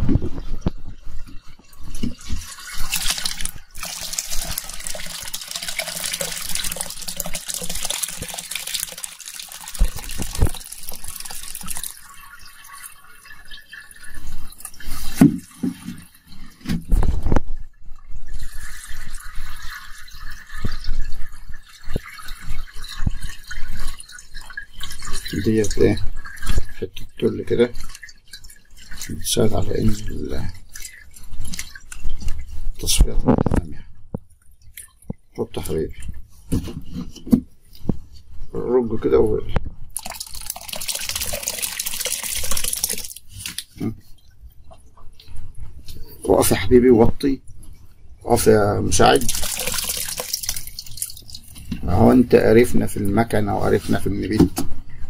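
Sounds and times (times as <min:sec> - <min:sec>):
juice splashing and trickling: 0:01.4 - 0:32.9, 0:39.9 - 0:46.4, 0:47.2 - 0:54.4.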